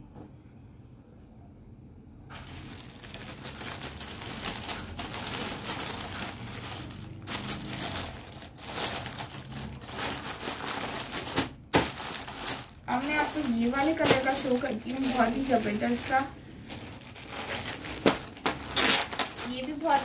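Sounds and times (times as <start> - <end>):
plastic bag crinkling: 2.3 - 20.0.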